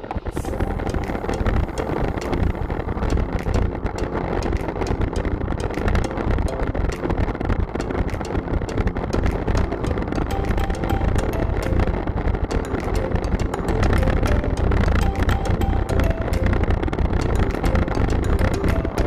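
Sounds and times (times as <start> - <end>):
small clicks and ticks: 0.1 - 19.0.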